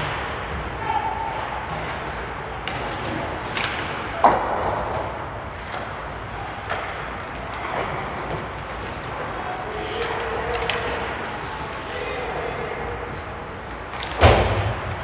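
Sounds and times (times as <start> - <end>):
hockey sticks and puck clacking: 0.0 - 15.0
skates scraping ice: 1.3 - 15.0.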